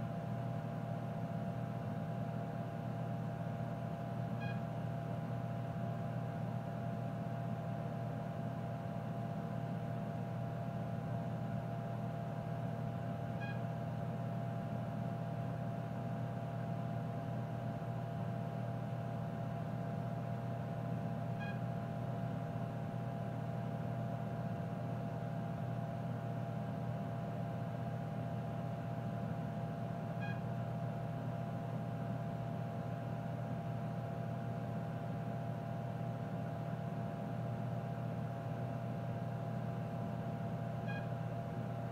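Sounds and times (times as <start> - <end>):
computer electrical and fan hum: 0.0 - 41.9.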